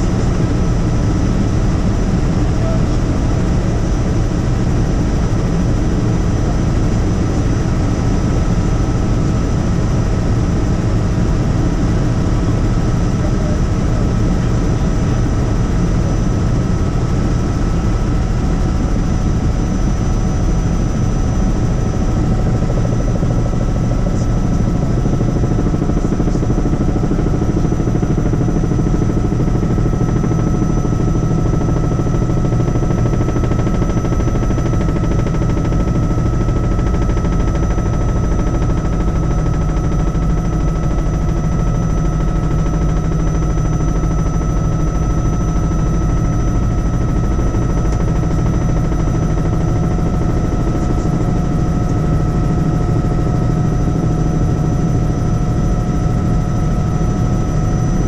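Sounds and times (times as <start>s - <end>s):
helicopter rotor and engine noise: 0.0s - 58.0s.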